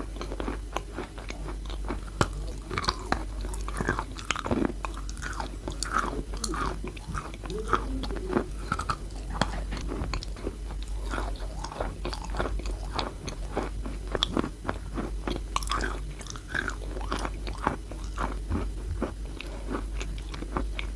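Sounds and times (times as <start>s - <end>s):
steady low hum: 0.0s - 20.9s
chewing gritty chalk: 0.1s - 20.9s.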